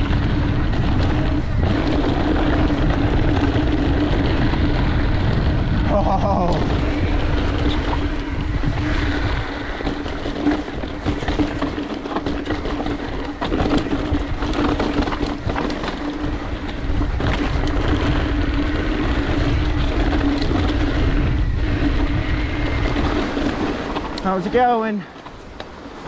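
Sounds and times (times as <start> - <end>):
bike hub buzzing: 0.0 - 26.0
bike rattling and knocking: 0.0 - 26.0
tyres rumbling over dirt: 0.0 - 26.0
wind buffeting microphone: 0.0 - 26.0.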